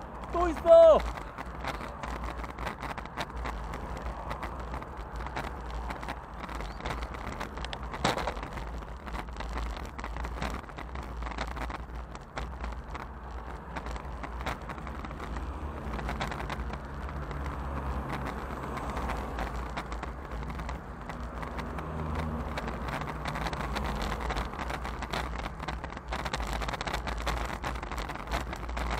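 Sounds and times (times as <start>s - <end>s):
faint vehicle engine hum: 0.0s - 28.9s
tyre and road noise: 0.0s - 28.9s
wind on microphone: 1.0s - 28.9s.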